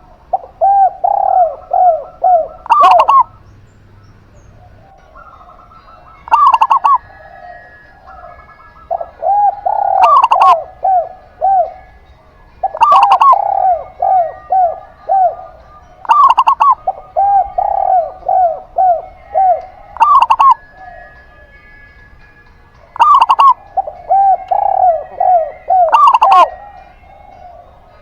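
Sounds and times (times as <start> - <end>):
soft dove coos: 0.0 - 3.5, 4.3 - 22.1, 22.8 - 28.0.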